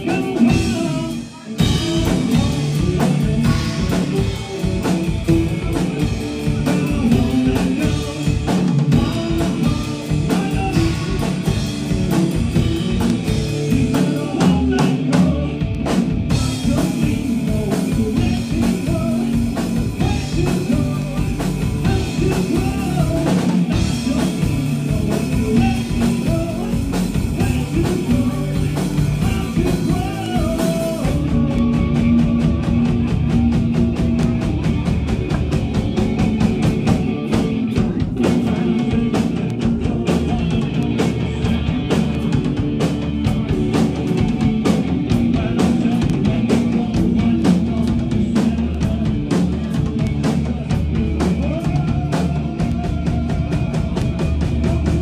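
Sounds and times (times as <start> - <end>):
drum kit beats: 0.0 - 55.0
electric guitars: 0.0 - 55.0.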